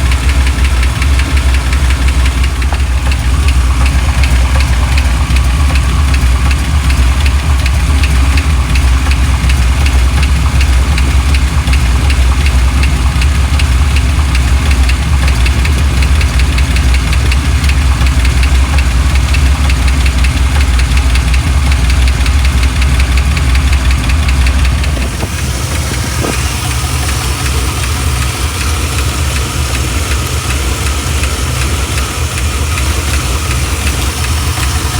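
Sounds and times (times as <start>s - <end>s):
fast steady engine ticking: 0.0s - 34.9s
pickup engine idling: 0.0s - 34.9s.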